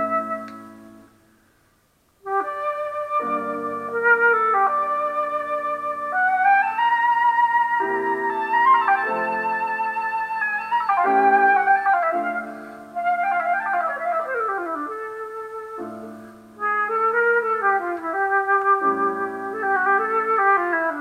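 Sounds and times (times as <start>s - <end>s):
flute-like melody: 0.0s - 1.2s, 2.2s - 21.0s
held chords: 0.0s - 1.3s, 2.2s - 21.0s.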